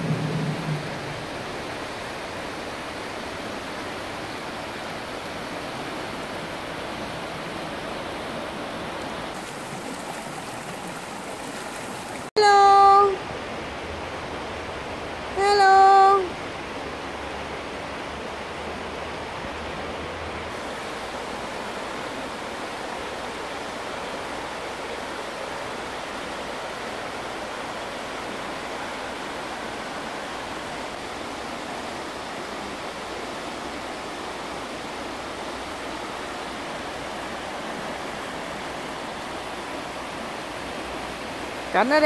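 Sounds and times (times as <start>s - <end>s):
creek water rushing over rocks: 0.0s - 42.0s.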